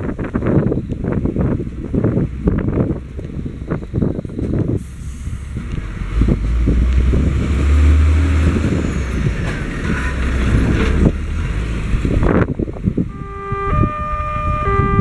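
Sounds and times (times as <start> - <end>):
tyre and road noise: 0.0 - 15.0
truck diesel engine passing: 0.1 - 15.0.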